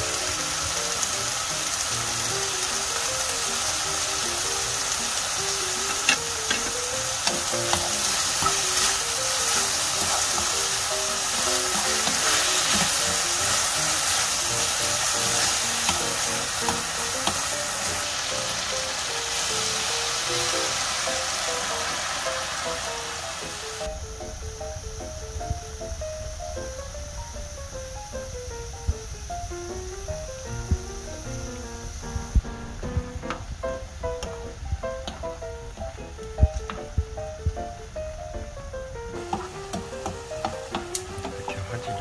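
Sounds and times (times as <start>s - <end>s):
meat sizzling in a frying pan: 0.0s - 38.0s, 39.0s - 42.0s.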